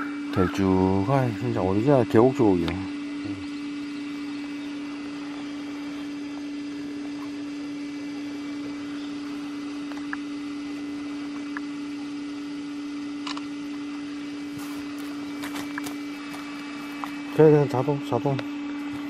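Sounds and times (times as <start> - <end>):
water pump motor humming: 0.0 - 19.0.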